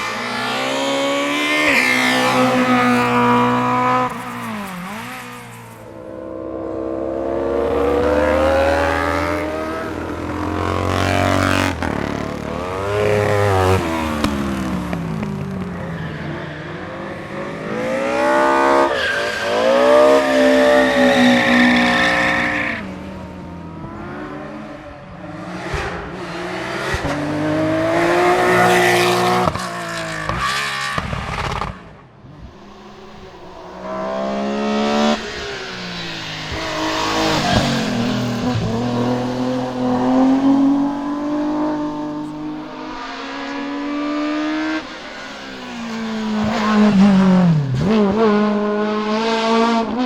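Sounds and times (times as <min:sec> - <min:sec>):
race car engine: 0:00.0 - 0:50.0.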